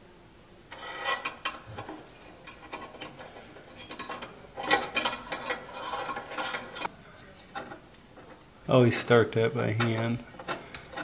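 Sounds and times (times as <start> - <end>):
small metal clicks and scrapes: 0.7 - 8.4, 9.8 - 11.0.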